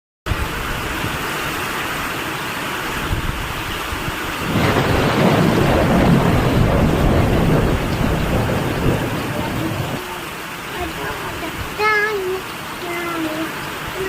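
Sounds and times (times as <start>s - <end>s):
heavy rain pouring: 0.3s - 14.0s.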